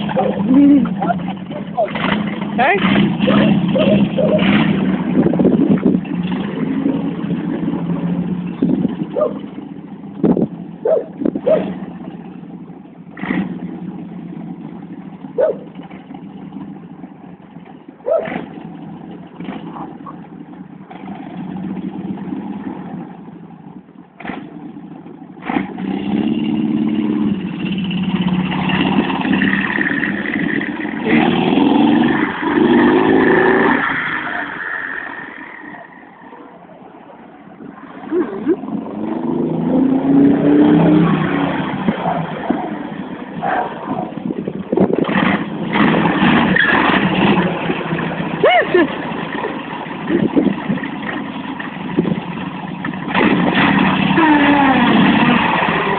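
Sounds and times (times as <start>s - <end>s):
trike engine running: 0.0s - 55.9s.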